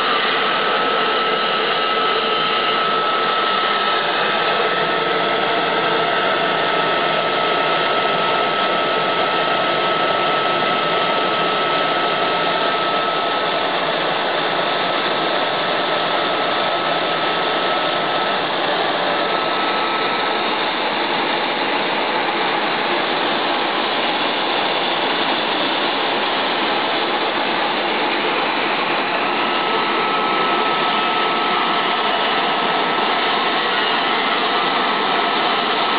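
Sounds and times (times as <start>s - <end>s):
blower running: 0.0s - 35.9s
thin steady whistle: 0.0s - 35.9s.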